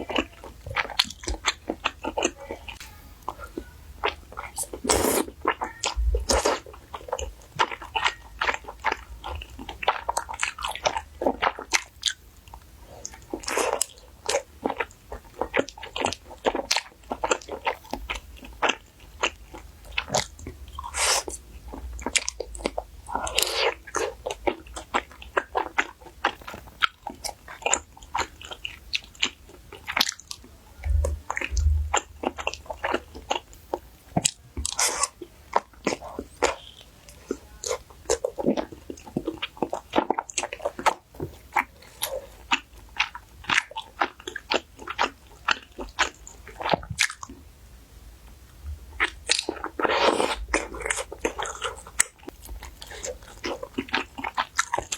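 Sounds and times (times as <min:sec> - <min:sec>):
wet chewing and lip smacks: 0:00.0 - 0:47.4, 0:49.0 - 0:54.9.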